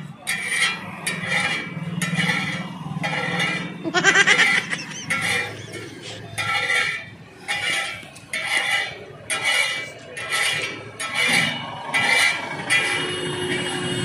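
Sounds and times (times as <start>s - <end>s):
metal spatula scraping in wok: 0.0s - 14.0s.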